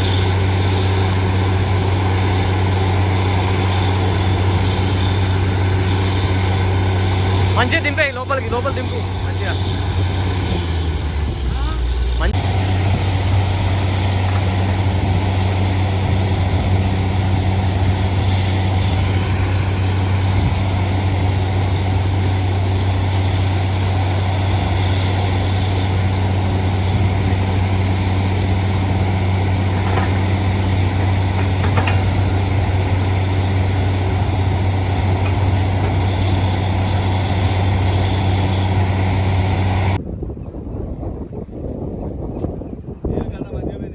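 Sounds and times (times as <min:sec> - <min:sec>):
drilling rig engine humming: 0:00.0 - 0:40.0.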